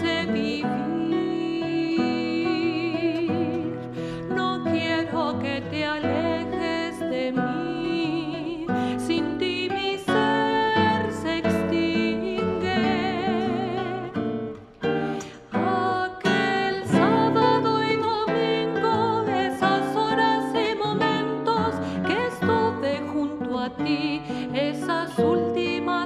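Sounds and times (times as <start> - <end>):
classical guitar plucked: 0.0 - 26.0
woman singing with vibrato: 0.0 - 26.0.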